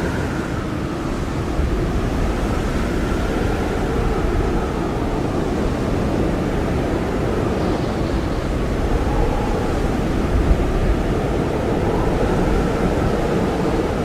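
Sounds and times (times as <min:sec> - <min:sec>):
blizzard wind roaring: 0:00.0 - 0:14.0.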